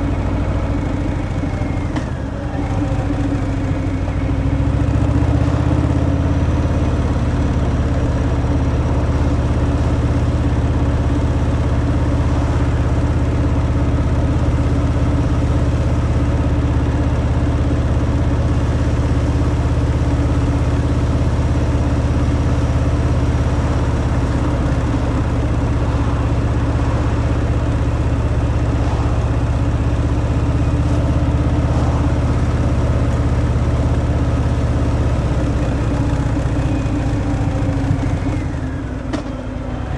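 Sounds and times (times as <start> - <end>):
motorcycle engine low rumble: 0.0 - 39.9.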